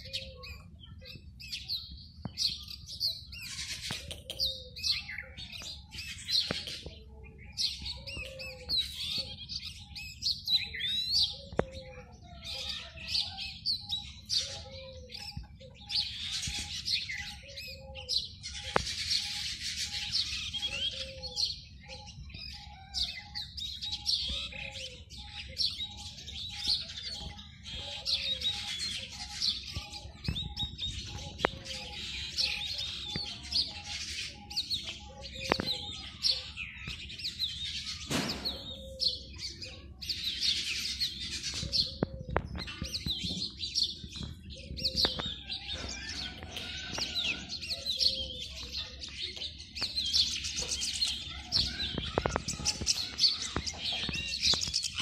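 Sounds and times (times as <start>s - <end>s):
bird singing: 0.0s - 55.0s
chorus of small birds chirping: 0.0s - 55.0s.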